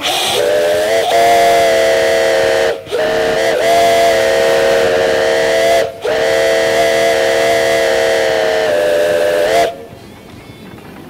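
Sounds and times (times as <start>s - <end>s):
steam whistle blasts: 0.0s - 10.7s.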